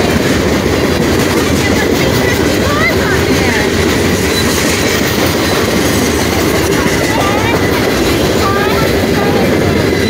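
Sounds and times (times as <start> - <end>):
steel wheels rumbling on rails: 0.0 - 10.0.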